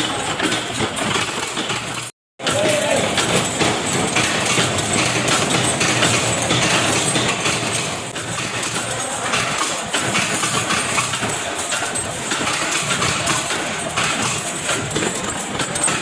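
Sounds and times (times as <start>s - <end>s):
factory machinery clatter: 0.0s - 16.0s.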